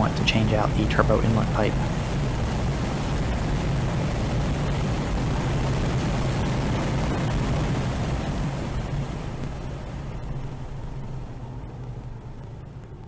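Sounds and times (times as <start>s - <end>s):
car engine droning: 0.0s - 13.0s
wind and road noise: 0.0s - 13.0s.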